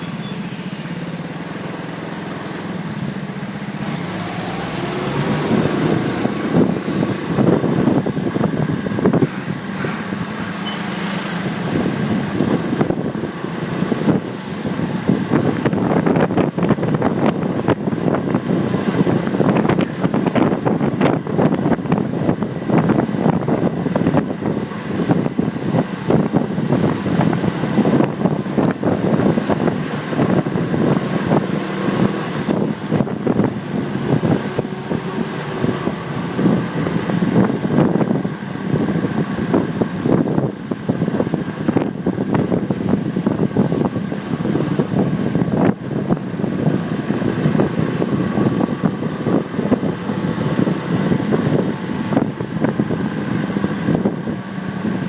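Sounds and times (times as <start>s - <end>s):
motorcycle engine running: 0.0s - 55.0s
wind buffeting microphone: 3.0s - 55.0s.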